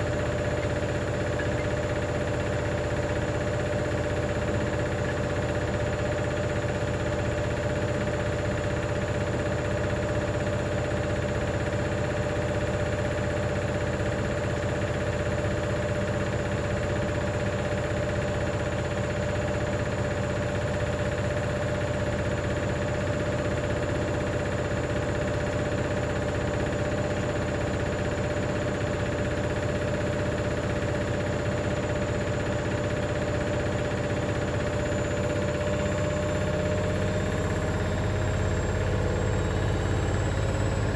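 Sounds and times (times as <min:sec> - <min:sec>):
washing machine motor whine: 0:00.0 - 0:40.9.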